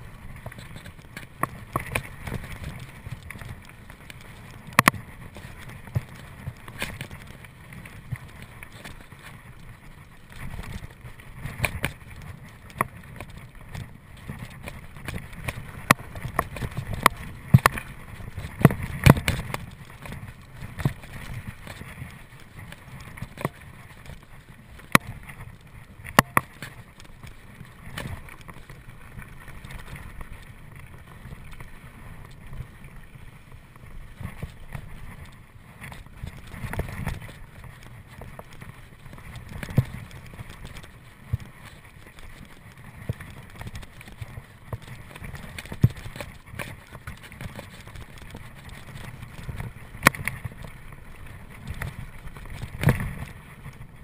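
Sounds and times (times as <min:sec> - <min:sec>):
bike tyres rumbling on trail: 0:00.0 - 0:54.0.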